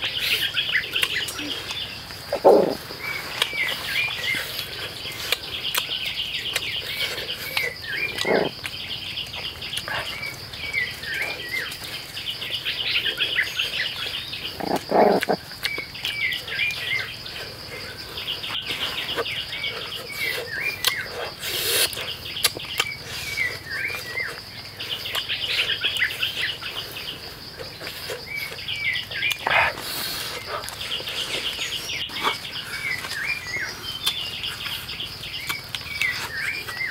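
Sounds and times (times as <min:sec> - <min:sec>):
bird calling: 0:00.0 - 0:36.9
insect drone: 0:00.0 - 0:36.9.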